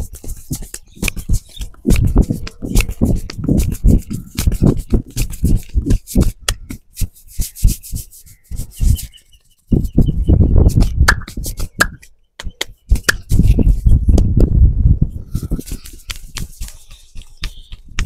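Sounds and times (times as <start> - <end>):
hands tapping scalp: 0.0 - 9.1, 10.7 - 14.3, 15.5 - 18.0
fingers rubbing through hair: 0.0 - 14.3, 15.2 - 18.0.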